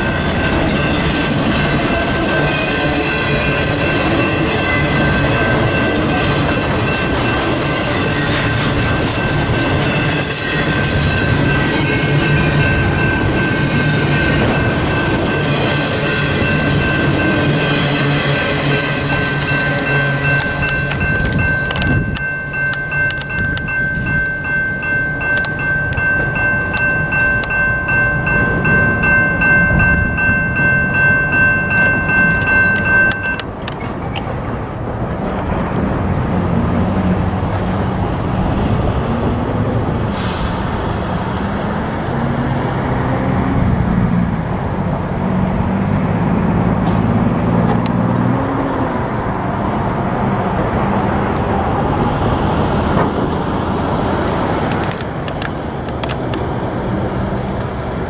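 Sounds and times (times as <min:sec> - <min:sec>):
diesel engines humming: 0:00.0 - 0:58.0
train rumbling past: 0:00.0 - 0:58.0.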